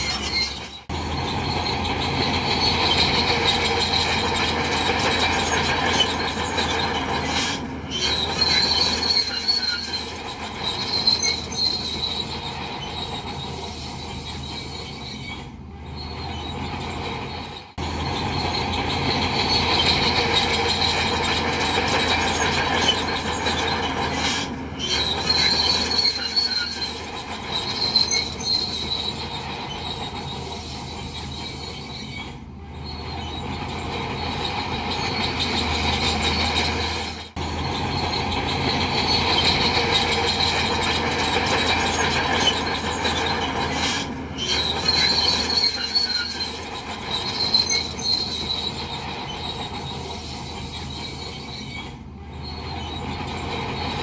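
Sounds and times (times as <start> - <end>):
diesel engine running: 0.0 - 54.0
steel tracks squealing and clanking: 0.0 - 54.0.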